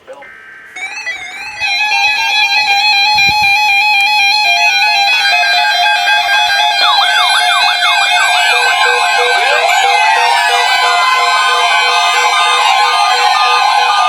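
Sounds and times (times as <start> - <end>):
stepped electronic beeping tone: 0.1 - 14.0
rising and falling siren sweeps: 0.2 - 14.0.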